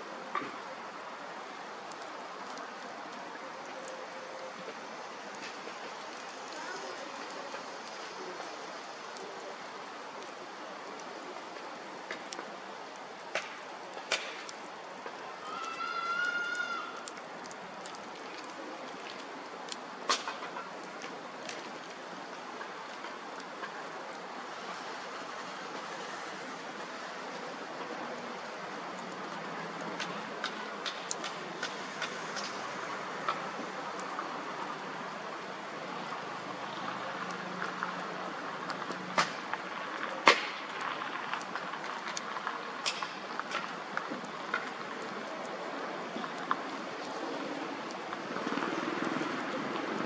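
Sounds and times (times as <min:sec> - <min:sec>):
burning wood crackling and popping: 0:00.0 - 0:50.0.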